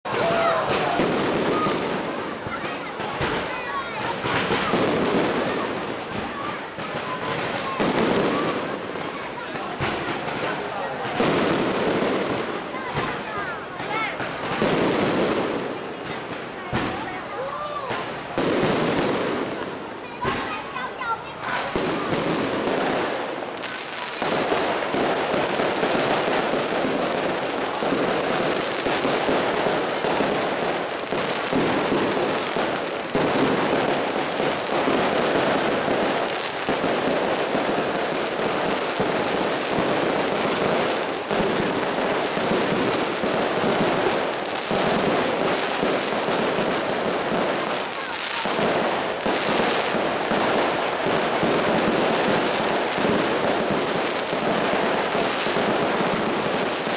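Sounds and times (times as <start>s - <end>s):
fireworks crackling: 0.0s - 56.9s.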